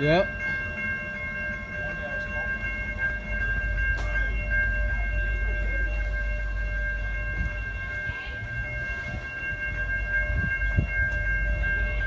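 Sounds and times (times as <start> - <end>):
railroad crossing bells ringing: 0.0 - 12.0
low rumble: 0.3 - 12.0.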